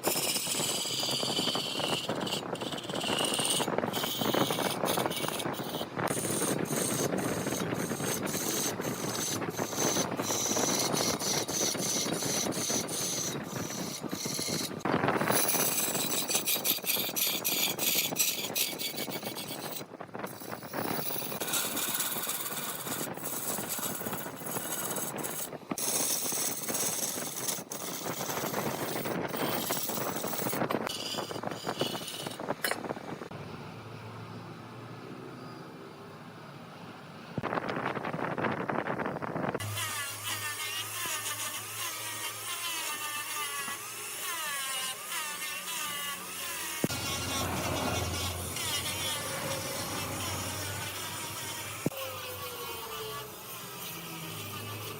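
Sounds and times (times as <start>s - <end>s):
tool cutting spinning wood: 0.0s - 33.3s, 39.6s - 54.9s
wood lathe grinding and scraping: 0.0s - 33.3s, 39.6s - 54.9s.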